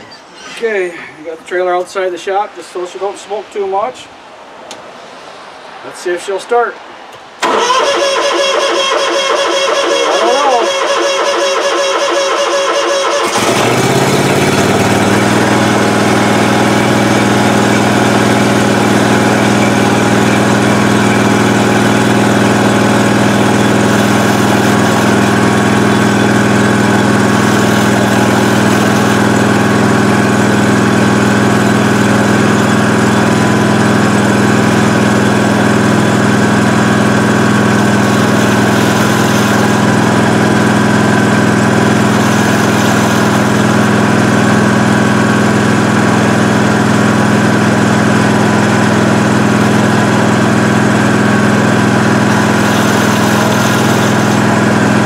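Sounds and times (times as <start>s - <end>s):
mower engine running steadily: 7.4s - 55.0s.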